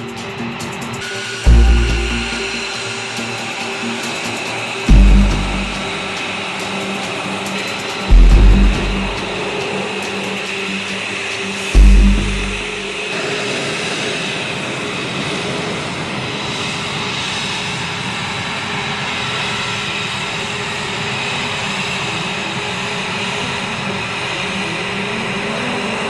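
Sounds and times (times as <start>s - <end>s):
jet engine running: 0.0s - 26.0s.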